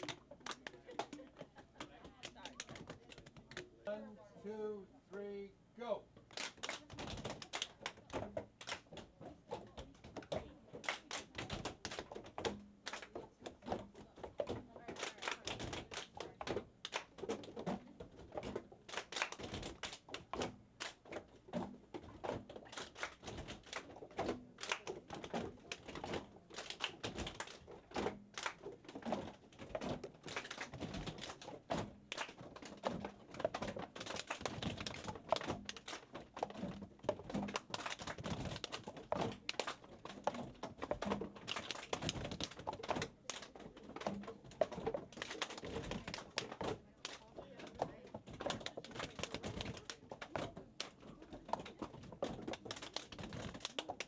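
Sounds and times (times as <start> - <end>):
clicks and taps of plastic labware: 0.0 - 3.7, 6.2 - 54.0.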